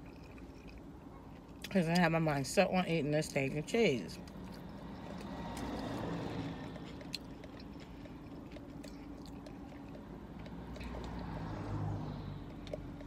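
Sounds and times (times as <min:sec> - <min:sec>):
person chewing sandwich: 0:00.0 - 0:01.7, 0:04.2 - 0:13.0.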